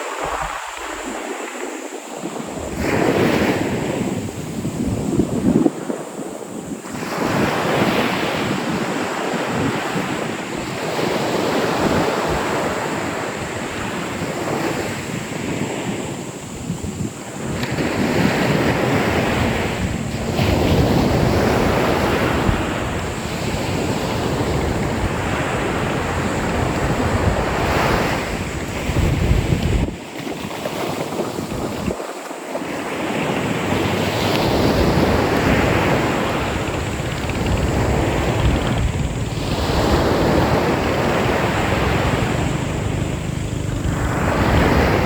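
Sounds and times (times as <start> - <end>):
ocean waves breaking on beach: 0.0 - 45.0
wind buffeting microphone: 0.0 - 45.0.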